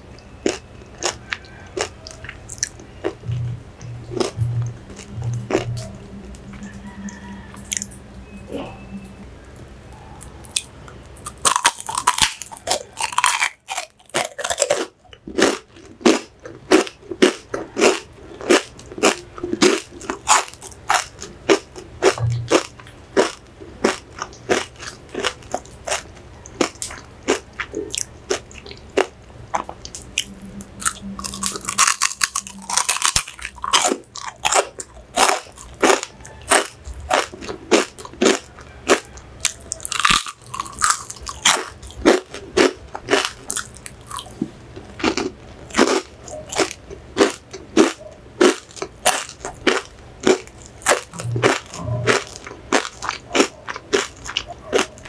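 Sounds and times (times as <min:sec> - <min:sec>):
crunching of pork rinds: 0:00.2 - 0:03.3, 0:04.2 - 0:06.4, 0:10.4 - 0:55.0.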